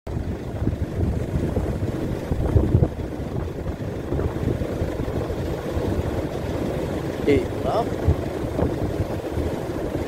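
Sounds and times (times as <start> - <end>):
waves washing up beach: 0.1 - 10.0
wind buffeting microphone: 0.1 - 10.0.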